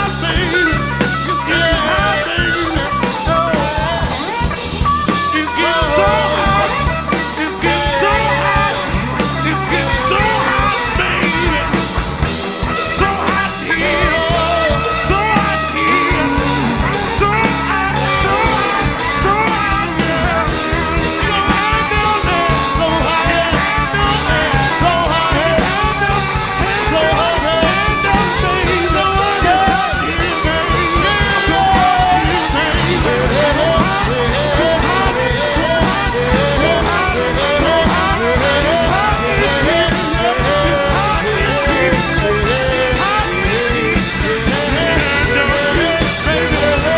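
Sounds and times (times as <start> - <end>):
live rock band playing: 0.0 - 46.9
person singing: 0.0 - 46.9
steady drum beat: 0.0 - 46.9.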